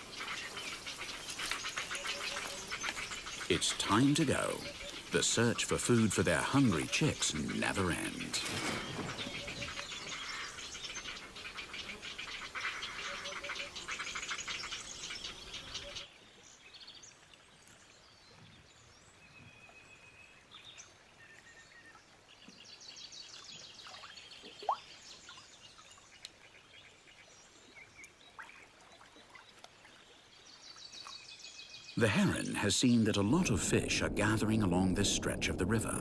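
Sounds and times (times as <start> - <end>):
wild bird chirps and trills: 0.0 - 17.2, 17.8 - 36.0.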